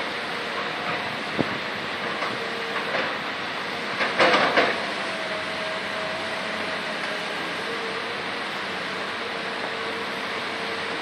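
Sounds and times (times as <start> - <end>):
diesel trucks running: 0.0 - 11.0.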